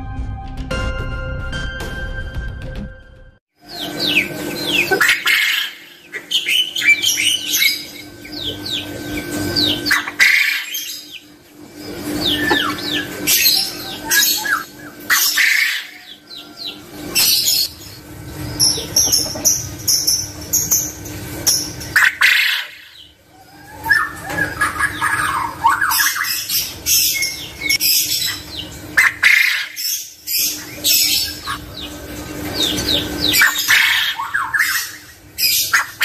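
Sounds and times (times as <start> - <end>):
quail chirping and whistling: 3.7 - 36.0.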